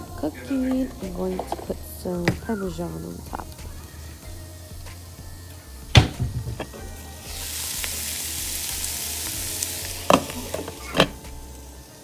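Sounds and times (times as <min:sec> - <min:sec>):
meat sizzling in a frying pan: 0:00.1 - 0:12.0.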